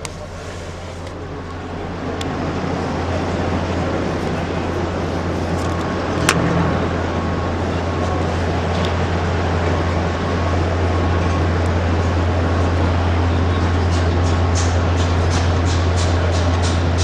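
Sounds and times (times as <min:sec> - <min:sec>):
hall noise: 0:00.0 - 0:17.0
loud low hum: 0:00.0 - 0:17.0.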